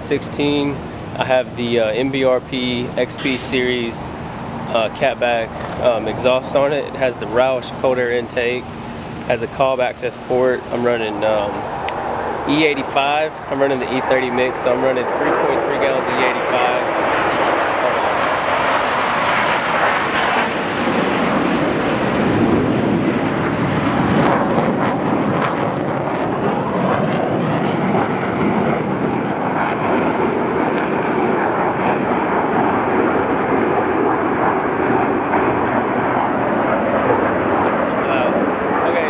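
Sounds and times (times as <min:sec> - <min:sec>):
aircraft flying over: 0:00.0 - 0:39.0.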